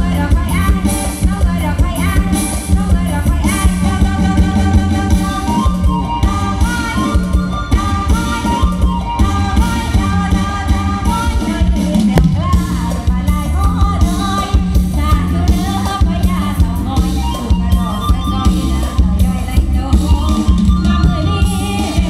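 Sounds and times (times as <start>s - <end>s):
drum kit beat: 0.0s - 22.0s
heavy bass: 0.0s - 22.0s
person singing: 0.0s - 22.0s.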